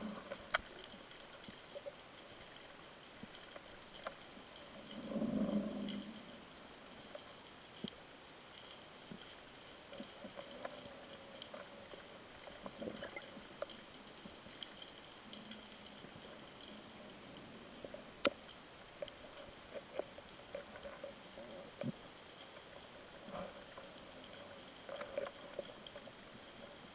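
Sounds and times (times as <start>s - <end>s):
faint steady hiss: 0.0s - 26.9s
underwater clicks and crackles: 0.0s - 26.9s.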